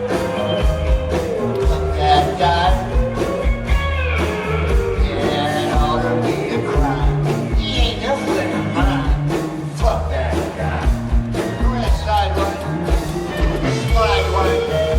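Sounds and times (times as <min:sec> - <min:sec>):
bass guitar: 0:00.0 - 0:14.9
drums keeping a steady beat: 0:00.0 - 0:14.9
electric guitar: 0:00.0 - 0:14.9
person singing: 0:00.0 - 0:14.9
slide guitar gliding: 0:00.0 - 0:14.9.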